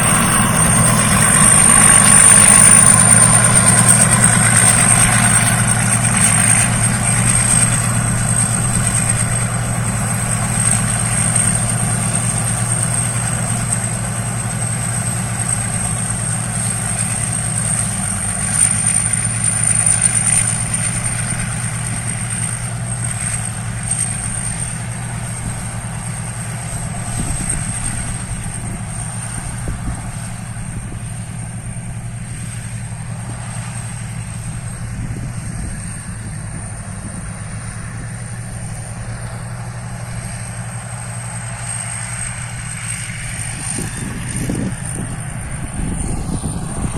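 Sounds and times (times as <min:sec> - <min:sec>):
harvester engine running: 0:00.0 - 0:46.9
thin high whine: 0:00.0 - 0:46.9.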